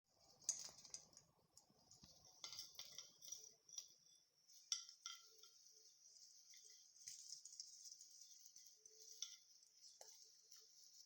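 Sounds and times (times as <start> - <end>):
christmas tree being handled: 0.1 - 11.0.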